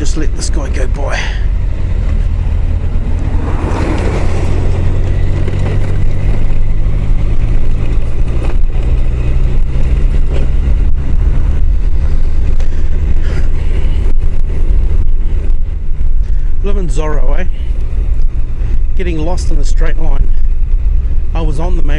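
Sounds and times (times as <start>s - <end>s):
heavy wind rush: 0.0s - 21.9s
motorcycle engine running: 0.0s - 21.9s.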